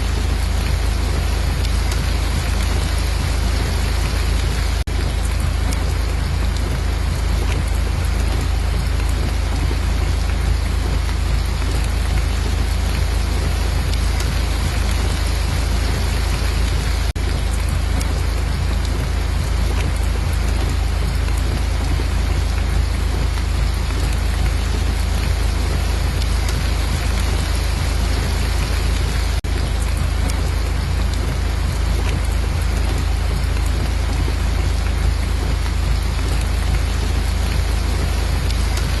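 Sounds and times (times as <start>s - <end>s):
deep rumble: 0.0s - 39.0s
steady rain falling: 0.0s - 39.0s.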